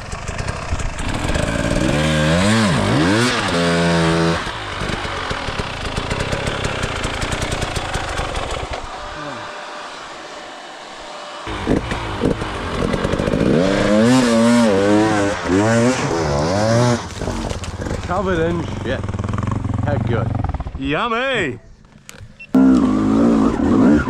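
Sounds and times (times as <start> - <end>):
dirt bike engine revving: 0.0 - 21.1, 22.5 - 24.0.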